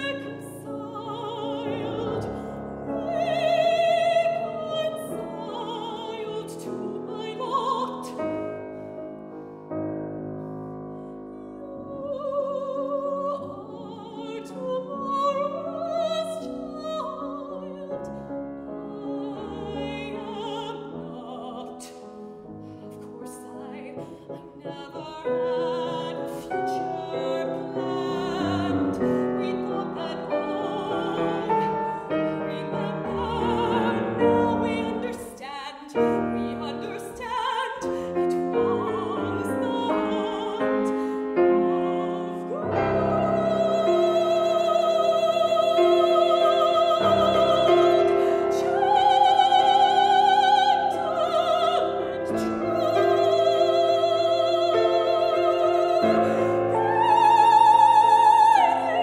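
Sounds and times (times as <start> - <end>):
soprano singing operatic aria: 0.0 - 9.4, 10.5 - 59.0
grand piano: 0.0 - 59.0.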